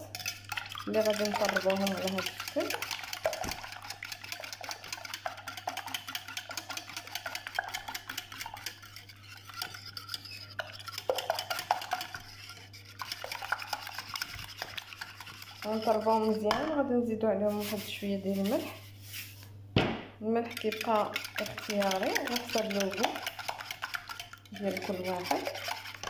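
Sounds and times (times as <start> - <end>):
whisk clicking against glass bowl: 0.0 - 16.6, 20.4 - 26.0.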